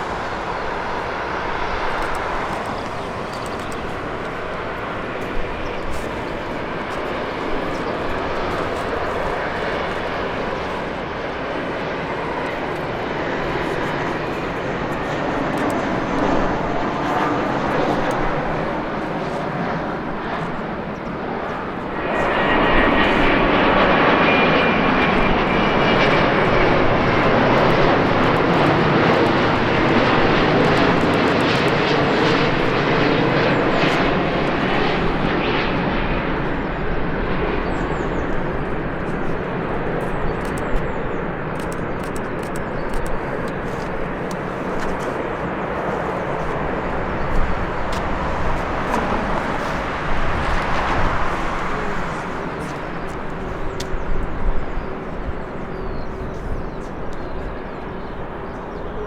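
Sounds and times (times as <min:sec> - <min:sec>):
jet airliner engines roaring: 0:00.0 - 0:59.0.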